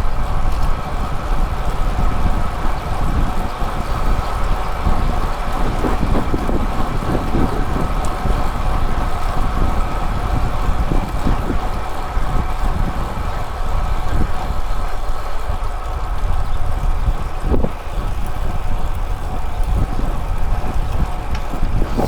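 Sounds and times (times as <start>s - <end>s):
wind rushing over microphone: 0.0s - 14.7s, 15.5s - 22.0s
road rumble: 0.0s - 22.0s.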